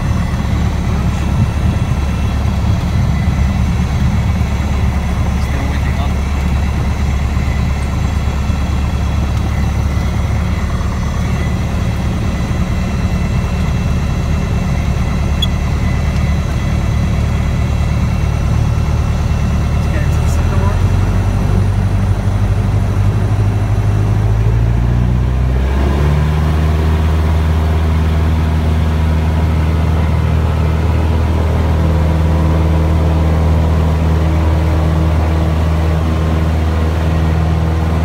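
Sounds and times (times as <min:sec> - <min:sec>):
aircraft engine droning: 0:00.0 - 0:38.0.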